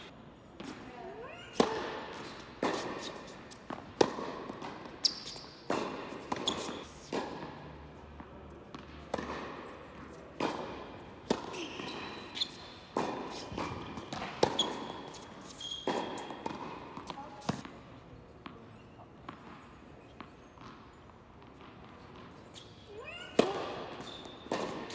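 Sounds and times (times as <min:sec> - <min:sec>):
tennis balls struck by rackets: 0:00.0 - 0:24.9
tennis balls bouncing on hard court: 0:00.5 - 0:24.9.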